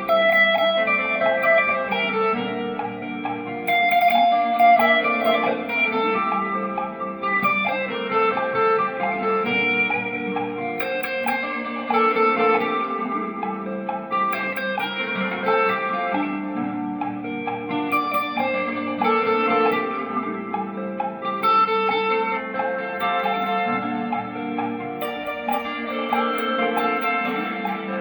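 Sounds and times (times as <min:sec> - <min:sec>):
held backing chords: 0:00.0 - 0:28.0
plucked guitar melody: 0:00.0 - 0:28.0.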